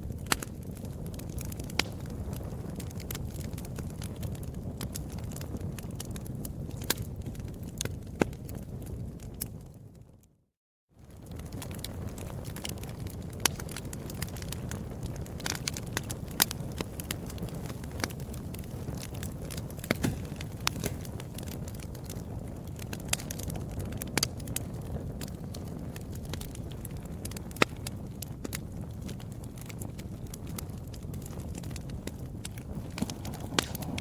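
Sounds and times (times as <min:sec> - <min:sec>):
fireplace fire crackling: 0:00.0 - 0:10.3, 0:11.0 - 0:34.0.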